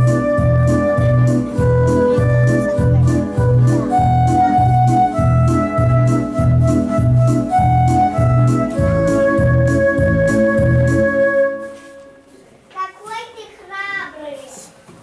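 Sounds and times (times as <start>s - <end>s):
electronic organ keyboard music: 0.0s - 12.2s.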